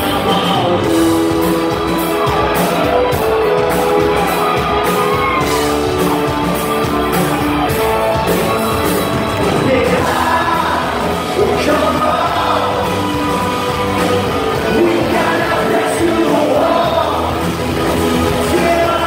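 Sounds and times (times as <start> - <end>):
electric guitars bending notes: 0.0 - 19.0
steady drum beat: 0.0 - 19.0.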